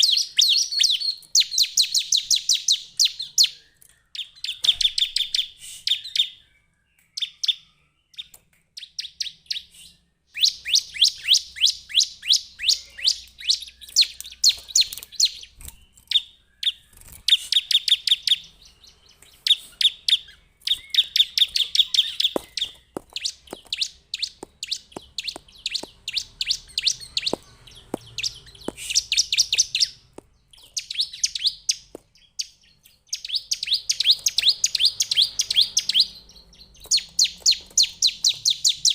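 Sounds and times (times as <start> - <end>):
bird singing high chipping notes: 0.0 - 38.9.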